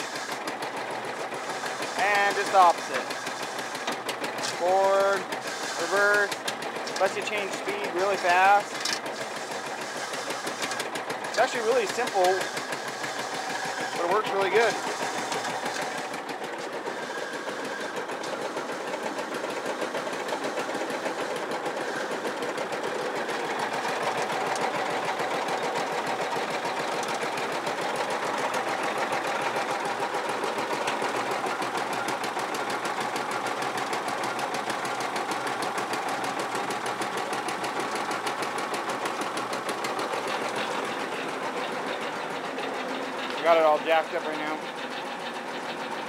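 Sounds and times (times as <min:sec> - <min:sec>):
small petrol engine running: 0:00.0 - 0:46.0.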